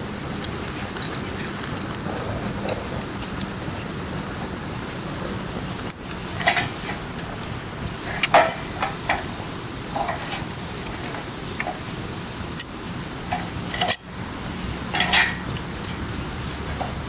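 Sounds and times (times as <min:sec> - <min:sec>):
campfire hissing: 0:00.0 - 0:17.0
fire crackles and pops: 0:00.0 - 0:17.0.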